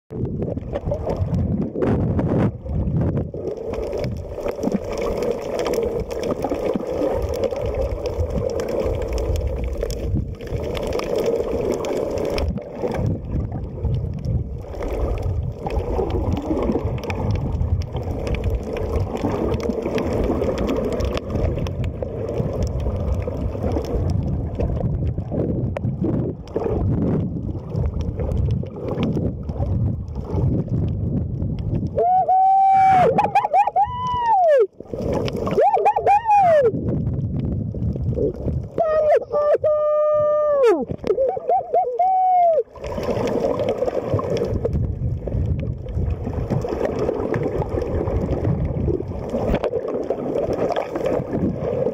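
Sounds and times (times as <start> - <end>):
muffled underwater rush: 0.1 - 51.9.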